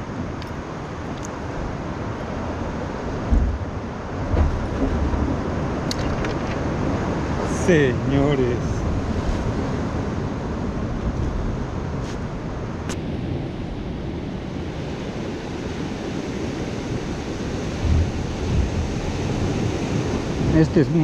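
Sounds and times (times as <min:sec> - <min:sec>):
surf against rocky shore: 0:00.0 - 0:21.0
wind rumbling on microphone: 0:00.0 - 0:21.0.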